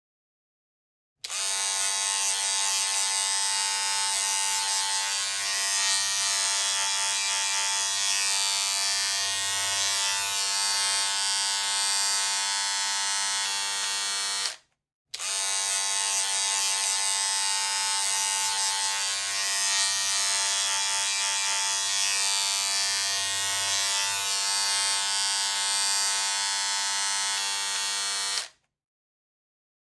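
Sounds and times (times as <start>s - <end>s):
electric hair clippers buzzing: 1.2s - 14.6s, 15.2s - 28.6s.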